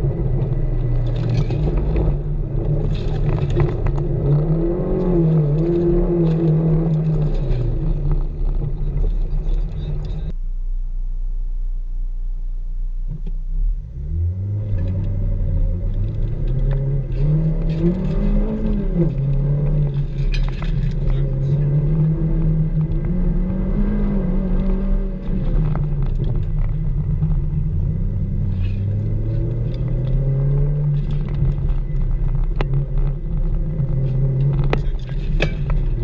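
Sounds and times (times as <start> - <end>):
car engine revving: 0.0 - 10.3, 13.6 - 36.0.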